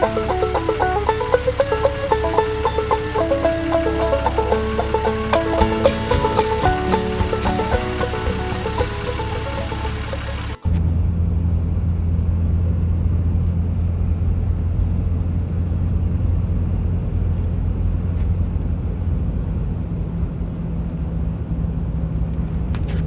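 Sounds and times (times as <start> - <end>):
vehicle engine and road drone: 0.0 - 23.0.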